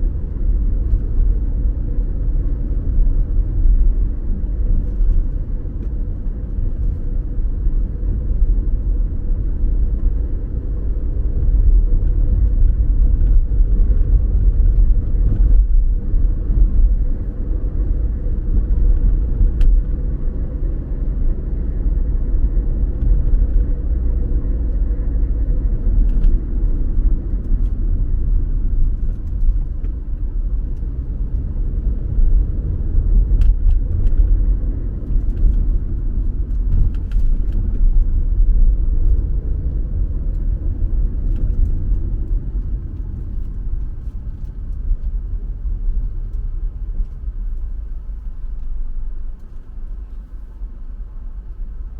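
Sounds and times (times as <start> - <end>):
car engine and tyres rumbling: 0.0 - 51.9.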